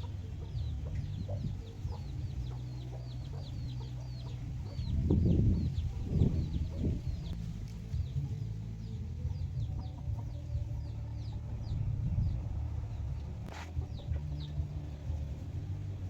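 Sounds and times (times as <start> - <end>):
chicks peeping: 0.0 - 15.8
chickens clucking: 0.0 - 16.0.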